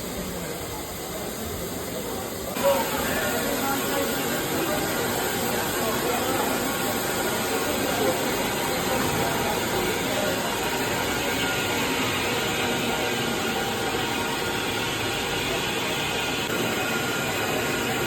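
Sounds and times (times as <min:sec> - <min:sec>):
steam train running: 0:00.0 - 0:18.0.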